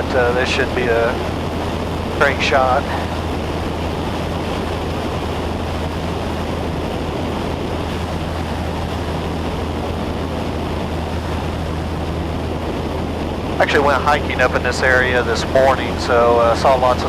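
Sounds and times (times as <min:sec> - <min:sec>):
airplane engine droning: 0:00.0 - 0:17.0
cabin air noise: 0:00.0 - 0:17.0.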